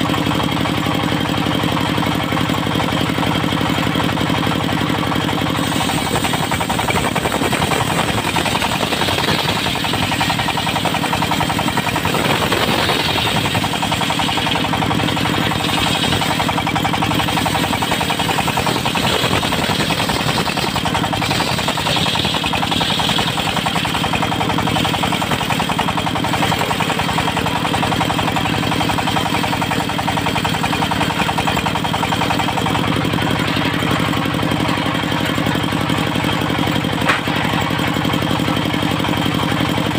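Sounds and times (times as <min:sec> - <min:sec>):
engine knocking rapidly: 0:00.0 - 0:39.9
saw cutting noise: 0:03.8 - 0:36.0.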